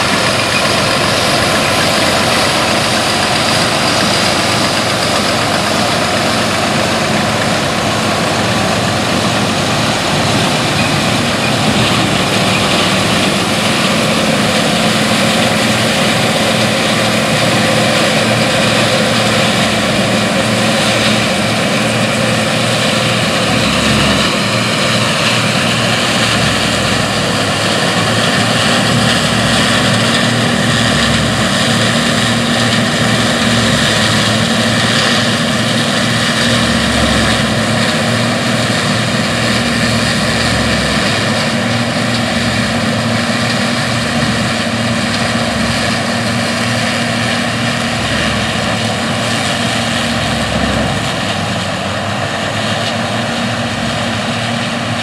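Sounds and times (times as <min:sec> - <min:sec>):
combine harvester droning: 0:00.0 - 0:55.0
tractor engine running: 0:00.0 - 0:55.0.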